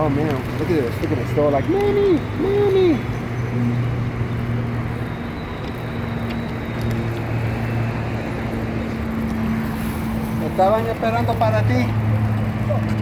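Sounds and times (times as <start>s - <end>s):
low engine hum: 0.0s - 13.0s
street traffic: 0.0s - 13.0s.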